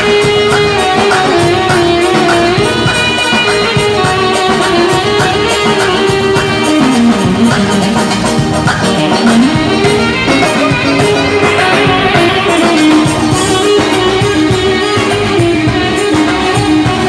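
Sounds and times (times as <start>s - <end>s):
live band dance music: 0.0s - 17.0s.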